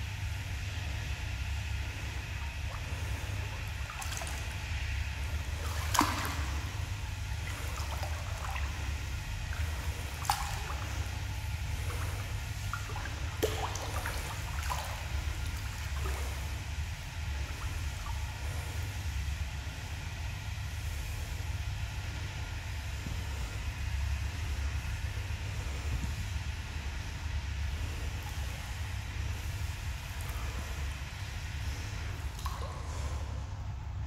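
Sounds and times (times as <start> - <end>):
pool water lapping and trickling: 0.0 - 34.0
steady low hum: 0.0 - 34.0
echoing drips and small splashes: 0.2 - 34.0.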